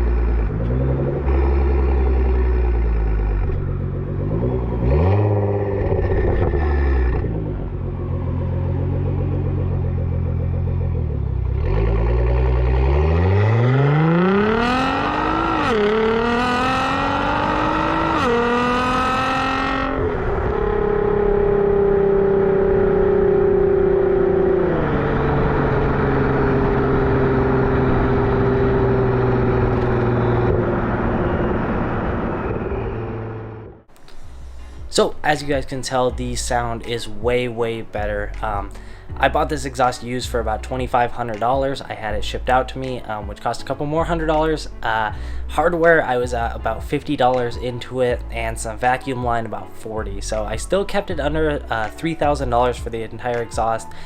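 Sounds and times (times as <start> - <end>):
sports car engine accelerating: 0.0 - 43.3.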